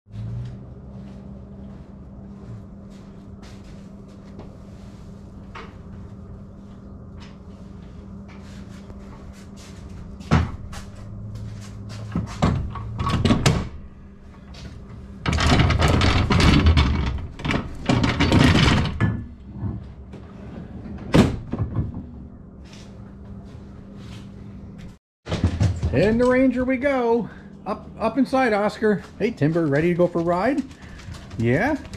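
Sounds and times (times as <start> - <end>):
steady low hum: 0.1 - 31.9.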